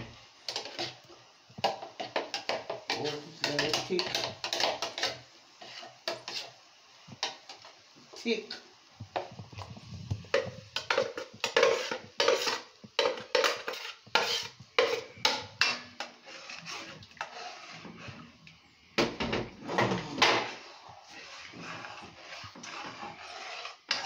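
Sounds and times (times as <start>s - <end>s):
metal spoon scraping a pot: 0.5s - 1.0s, 1.6s - 6.6s, 8.5s - 18.4s, 19.3s - 24.0s.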